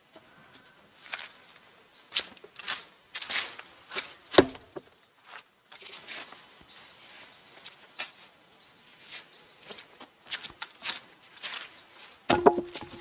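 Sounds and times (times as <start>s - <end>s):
crunching footsteps: 0.5s - 8.3s, 8.9s - 13.0s.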